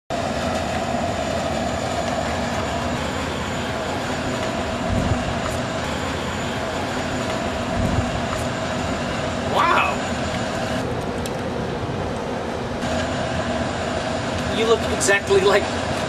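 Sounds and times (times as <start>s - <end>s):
vehicle rumble and hiss: 0.1s - 16.0s.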